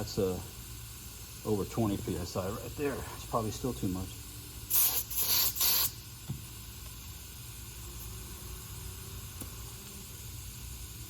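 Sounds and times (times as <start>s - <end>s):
air hissing from tire valve: 0.0s - 11.0s.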